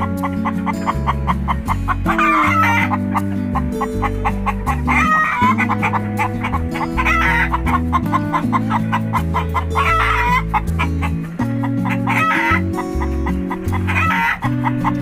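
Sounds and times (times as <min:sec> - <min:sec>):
background music with beat: 0:00.0 - 0:15.0
chicken calling: 0:00.0 - 0:15.0.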